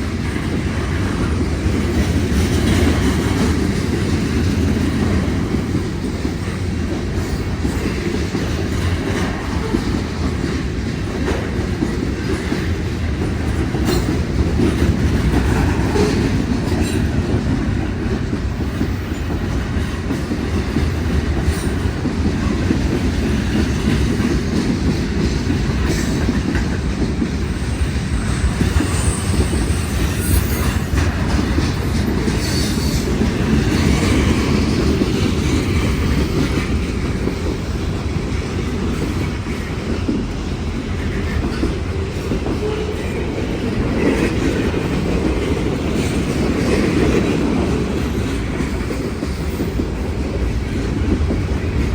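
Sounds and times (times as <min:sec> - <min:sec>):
railroad cars rumbling: 0:00.0 - 0:51.9.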